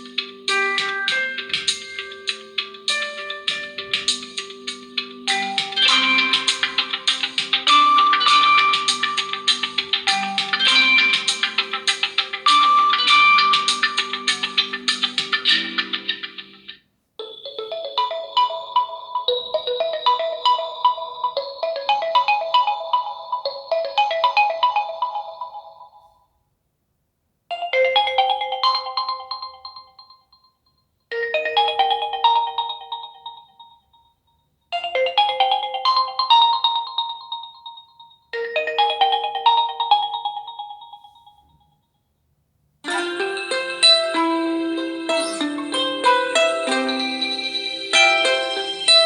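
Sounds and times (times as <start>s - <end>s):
phone ringtone melody: 0.0s - 26.2s, 31.2s - 33.9s, 34.8s - 41.5s, 42.9s - 49.0s.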